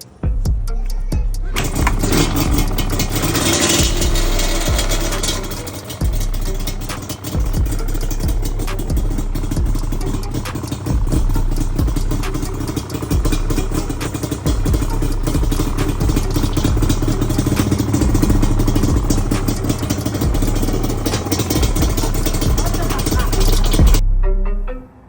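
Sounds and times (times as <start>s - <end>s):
two-stroke engine running: 0.0s - 24.0s.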